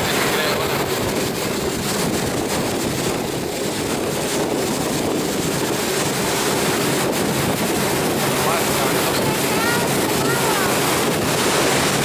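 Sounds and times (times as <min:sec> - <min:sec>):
motorboat engine running: 0:00.0 - 0:12.0
water rushing: 0:00.0 - 0:12.0
wind buffeting microphone: 0:00.0 - 0:12.0.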